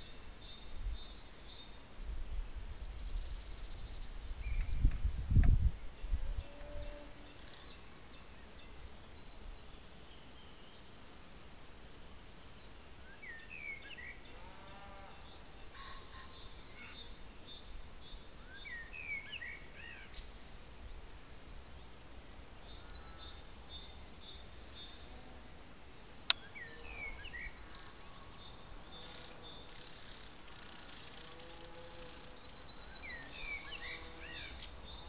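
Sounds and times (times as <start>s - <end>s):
birds singing: 2.8s - 10.9s, 12.4s - 25.4s, 26.0s - 35.0s.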